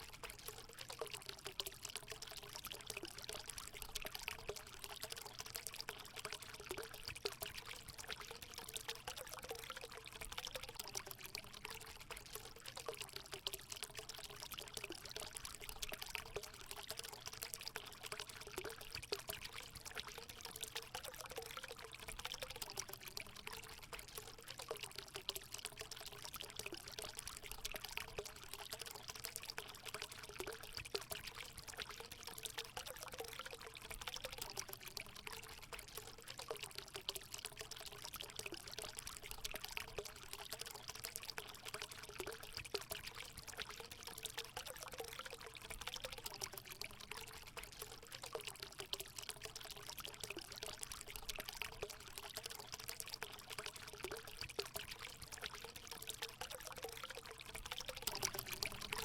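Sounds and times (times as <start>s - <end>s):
water pouring into pool: 0.0s - 59.0s.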